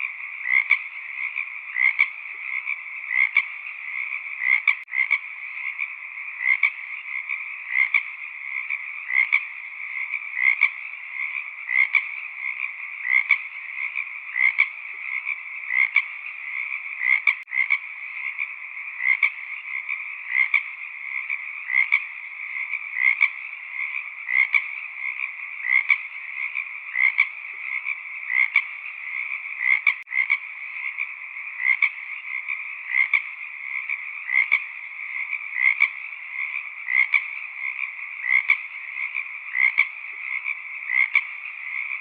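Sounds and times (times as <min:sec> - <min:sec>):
frog chorus trilling: 0:00.0 - 0:42.0
loud frog calls: 0:00.0 - 0:42.0.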